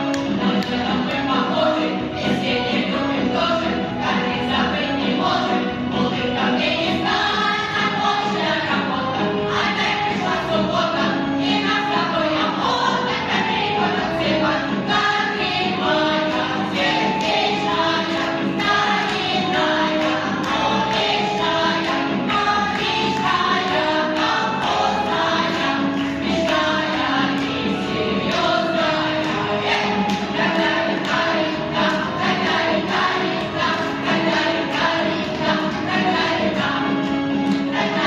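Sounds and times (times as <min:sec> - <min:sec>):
choir singing: 0:00.0 - 0:38.0
musical accompaniment: 0:00.0 - 0:38.0.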